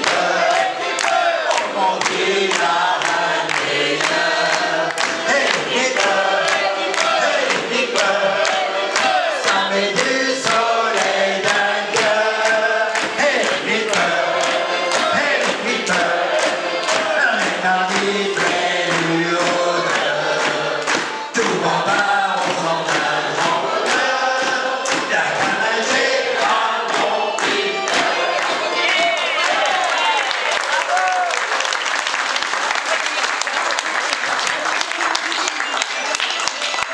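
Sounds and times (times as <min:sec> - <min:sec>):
crowd singing: 0:00.0 - 0:30.7
rhythmic clapping: 0:00.0 - 0:36.9.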